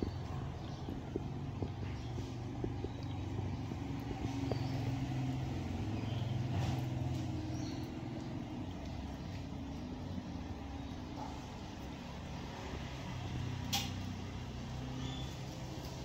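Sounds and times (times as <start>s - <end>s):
kitten chewing food: 0.0s - 16.0s
low mechanical hum: 0.0s - 16.0s.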